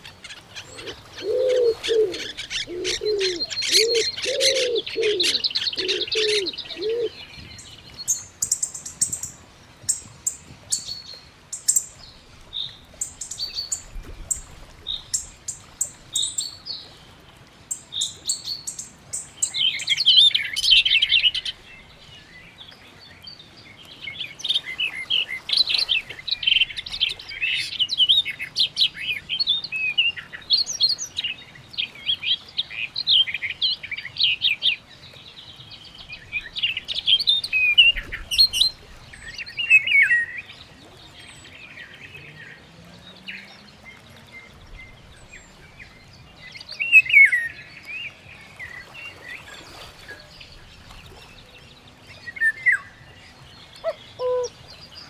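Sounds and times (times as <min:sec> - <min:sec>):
birds chirping: 0:00.0 - 0:17.0, 0:17.7 - 0:55.0.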